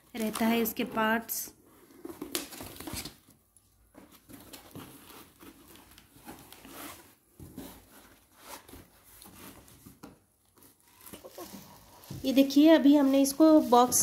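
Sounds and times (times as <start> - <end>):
plastic wrapping crinkling: 0.0 - 1.3, 4.0 - 14.0.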